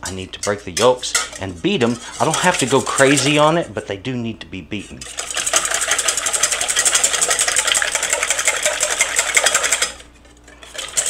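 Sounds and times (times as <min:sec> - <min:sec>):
whisk beating eggs in metal bowl: 0:00.0 - 0:03.7, 0:05.0 - 0:11.0.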